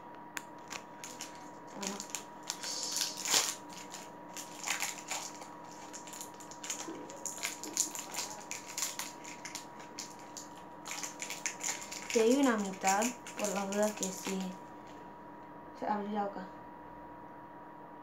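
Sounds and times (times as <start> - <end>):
plastic wrapper crinkling: 0.4 - 15.0.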